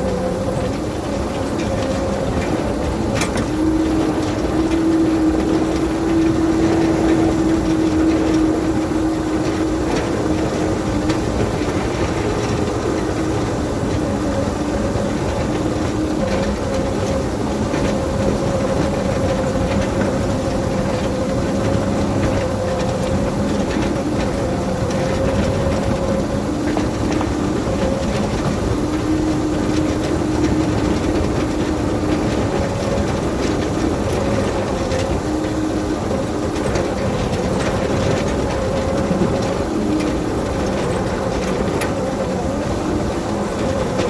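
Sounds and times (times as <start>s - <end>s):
mechanical hum: 0.0s - 44.0s
snow rushing off plow blade: 0.0s - 44.0s
train wheel noise: 0.0s - 44.0s.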